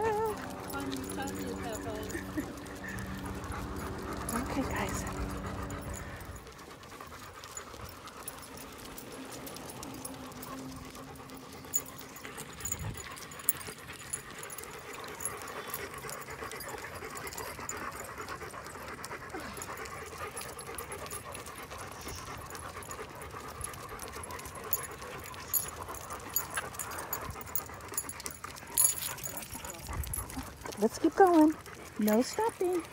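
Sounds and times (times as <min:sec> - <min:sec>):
dog panting: 0:00.0 - 0:32.9.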